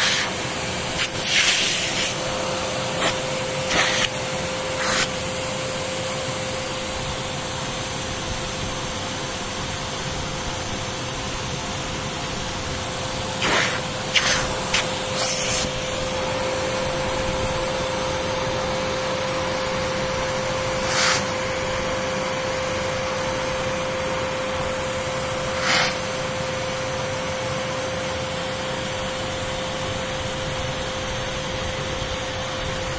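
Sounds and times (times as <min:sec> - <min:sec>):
vacuum motor running: 0:00.0 - 0:32.9.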